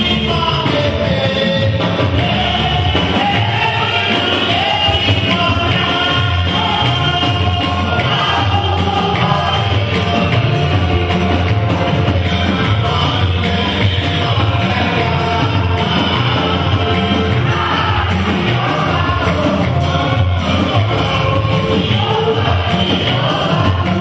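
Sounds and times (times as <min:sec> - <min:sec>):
voices singing worship music: 0:00.0 - 0:24.0.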